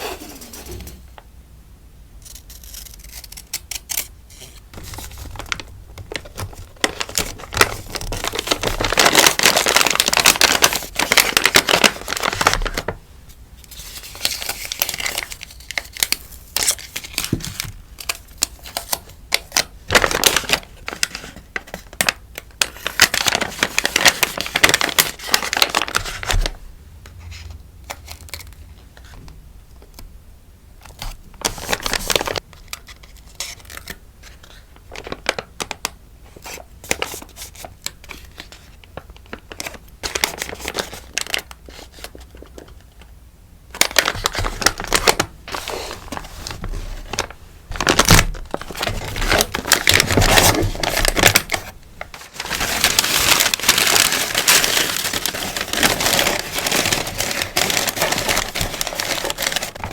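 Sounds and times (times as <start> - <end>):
packaging crinkling and rustling: 2.6 - 13.0, 13.6 - 26.6, 30.8 - 43.1, 43.7 - 59.9.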